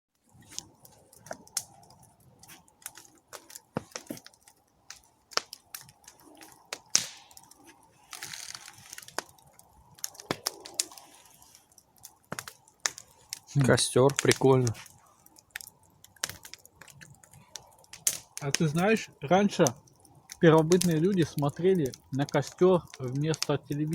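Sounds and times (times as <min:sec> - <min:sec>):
campfire crackling and popping: 0:00.1 - 0:23.9
fire hissing: 0:00.2 - 0:23.9.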